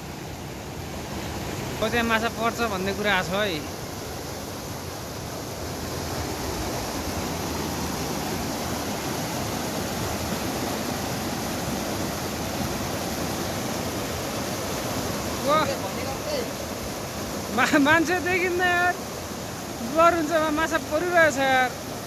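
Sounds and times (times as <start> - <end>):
stream rushing over boulders: 0.0 - 22.0.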